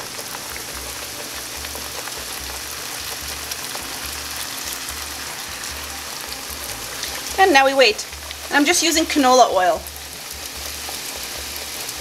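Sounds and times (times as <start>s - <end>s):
dough sizzling in hot oil: 0.0s - 12.0s.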